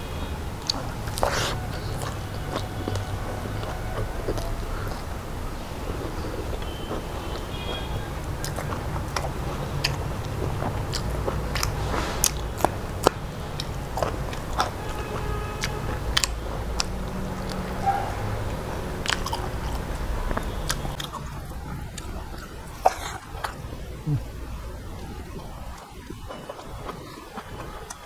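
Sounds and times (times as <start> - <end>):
man chewing with smacks: 0.0 - 28.0.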